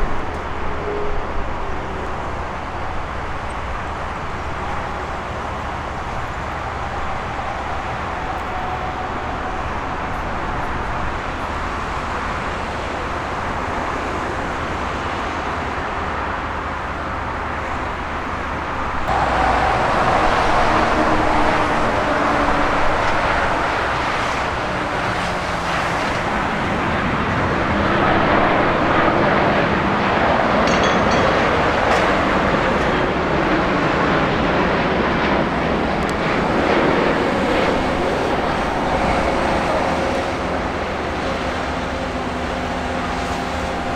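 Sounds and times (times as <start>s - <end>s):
jet airliner engine noise: 0.0s - 43.9s.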